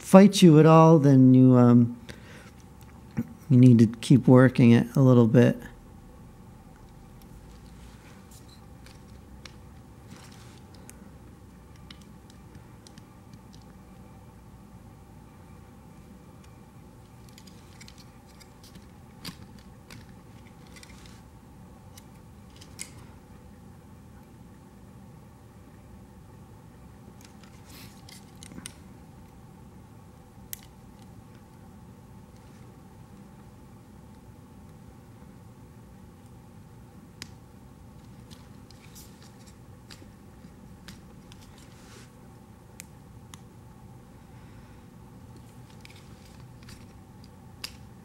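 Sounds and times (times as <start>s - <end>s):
low background noise: 0.0s - 48.0s.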